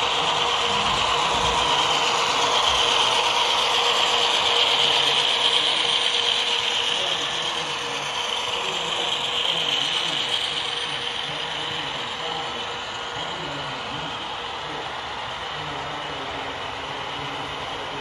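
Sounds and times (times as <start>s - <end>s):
model train wheels rattling on rails: 0.0s - 18.0s.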